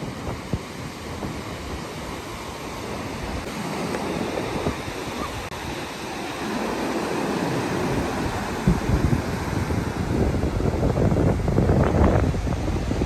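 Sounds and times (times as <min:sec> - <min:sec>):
sea surf breaking on sand: 0:00.0 - 0:13.0.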